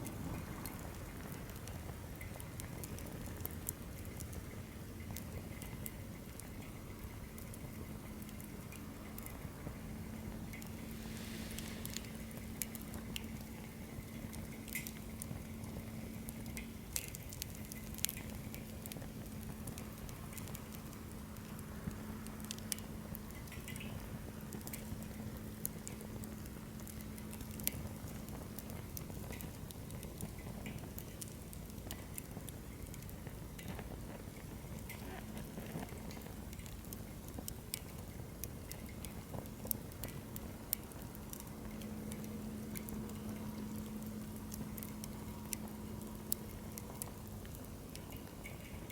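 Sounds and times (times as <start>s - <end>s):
low rush of flame: 0.0s - 48.9s
campfire crackling and popping: 0.1s - 48.9s.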